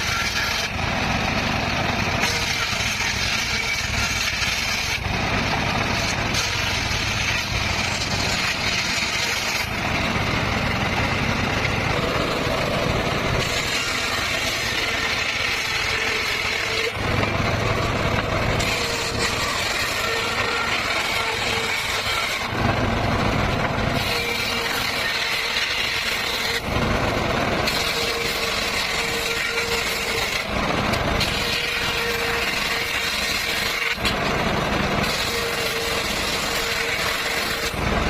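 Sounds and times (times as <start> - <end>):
circular saw cutting: 0.0 - 38.0
engine running: 0.0 - 38.0.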